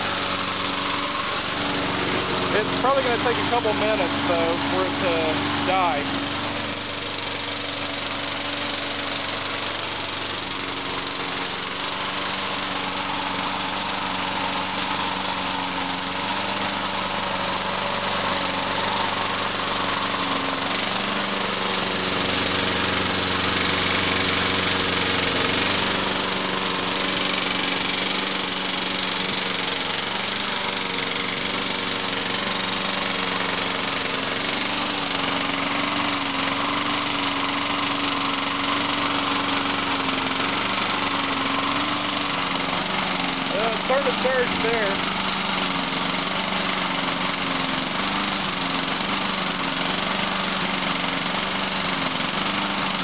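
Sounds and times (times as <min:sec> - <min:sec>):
lawnmower engine running: 0:00.0 - 0:53.0.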